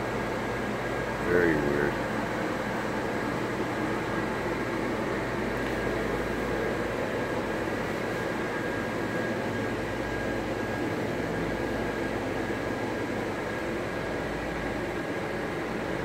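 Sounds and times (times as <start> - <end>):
electric blower fans whirring: 0.0 - 16.0
faint steady hum: 0.0 - 16.0.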